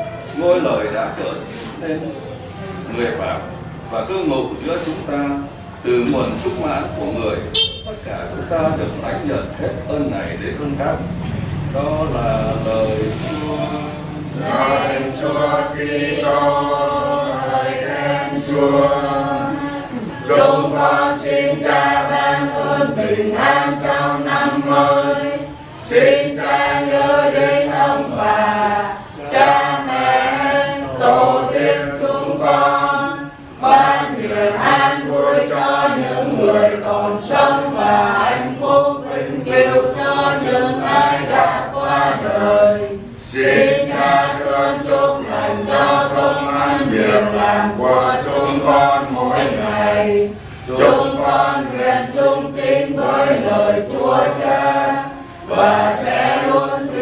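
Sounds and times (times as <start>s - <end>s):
group singing a hymn unaccompanied: 0.0s - 57.0s.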